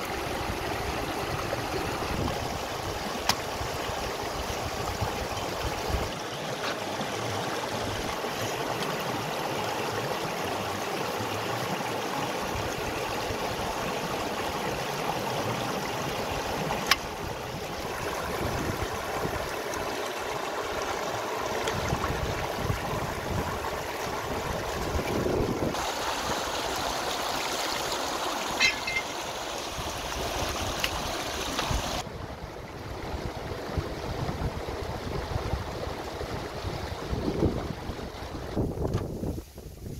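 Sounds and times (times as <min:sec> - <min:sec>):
stream rushing over rocks: 0:00.0 - 0:39.4.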